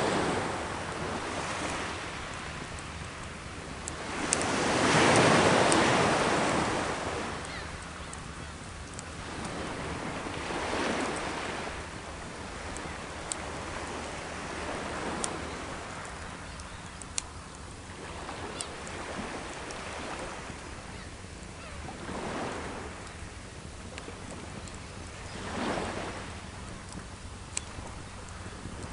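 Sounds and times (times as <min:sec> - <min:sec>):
campfire popping: 0:00.0 - 0:28.9
sea waves washing onto shore: 0:00.0 - 0:28.9.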